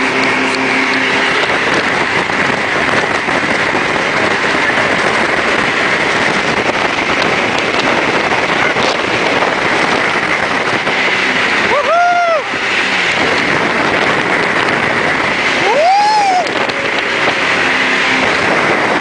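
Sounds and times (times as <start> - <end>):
boat engine hum: 0.0 - 19.0
wind on microphone: 0.0 - 19.0.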